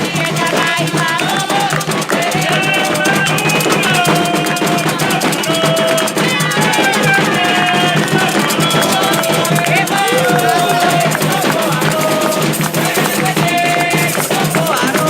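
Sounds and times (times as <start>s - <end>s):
fast drums and percussion: 0.0s - 15.0s
people singing: 0.0s - 15.0s.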